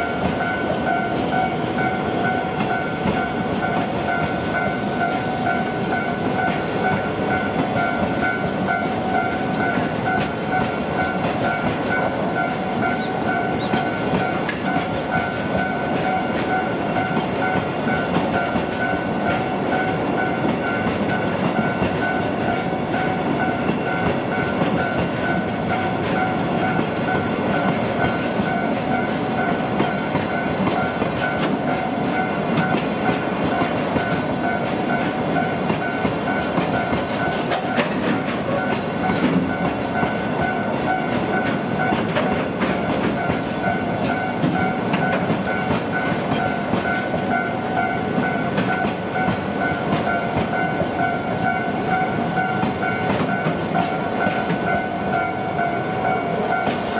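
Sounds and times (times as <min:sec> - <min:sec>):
train wheels clacking on rails: 0:00.0 - 0:56.9.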